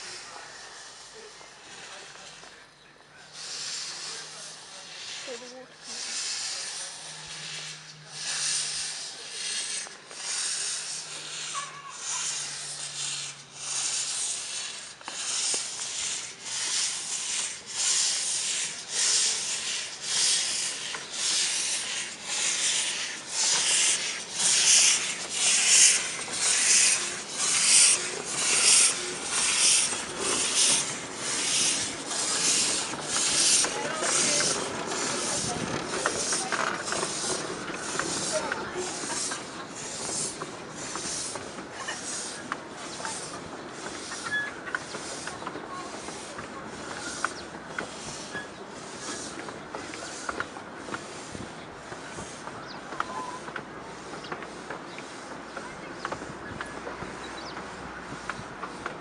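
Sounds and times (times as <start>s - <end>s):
steam locomotive exhaust chuffing: 0.0s - 59.0s.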